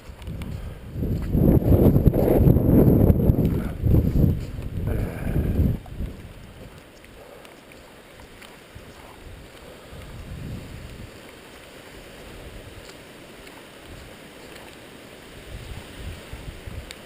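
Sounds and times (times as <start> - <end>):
wind gusting against microphone: 0.0 - 7.0, 8.1 - 17.0.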